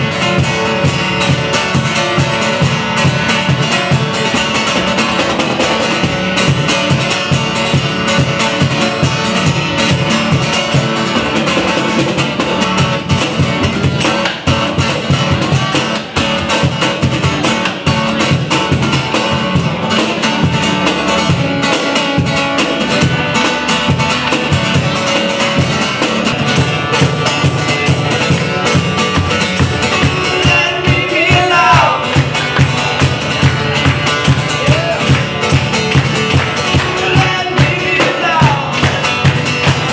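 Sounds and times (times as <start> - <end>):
guitar song with drums: 0.0 - 39.9.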